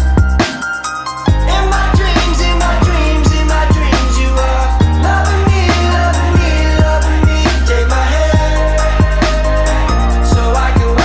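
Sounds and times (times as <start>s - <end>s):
music with steady beat and deep bass: 0.0s - 11.0s.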